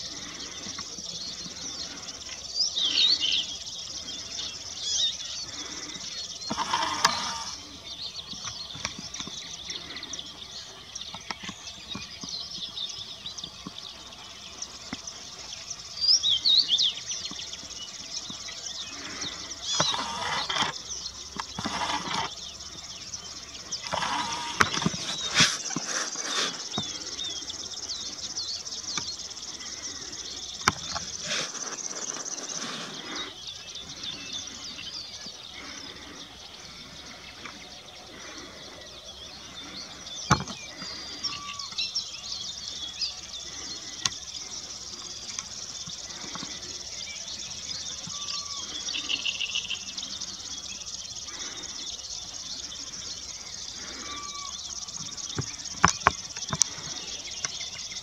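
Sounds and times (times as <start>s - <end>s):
insects chirping: 0.0s - 58.0s
songbirds chirping: 0.0s - 58.0s.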